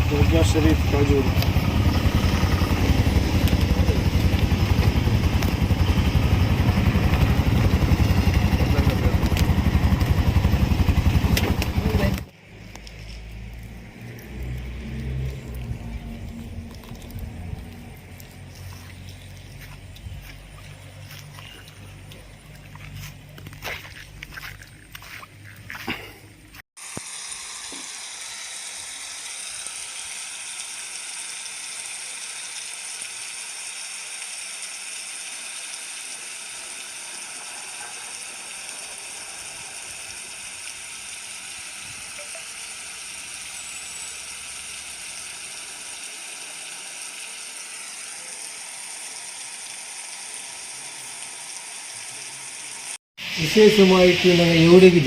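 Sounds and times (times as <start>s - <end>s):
mountain stream hissing: 0.0s - 55.0s.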